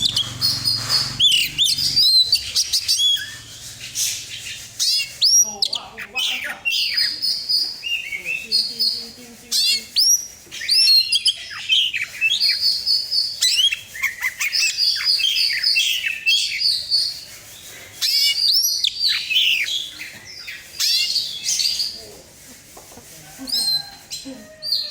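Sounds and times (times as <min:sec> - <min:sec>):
songbird whistling and chirping: 0:00.0 - 0:17.3, 0:18.0 - 0:22.0.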